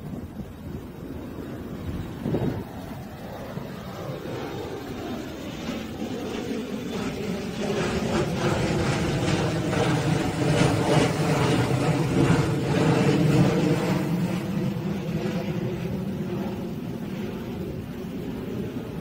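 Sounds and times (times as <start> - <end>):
jet airliner rumble overhead: 0.0 - 19.0.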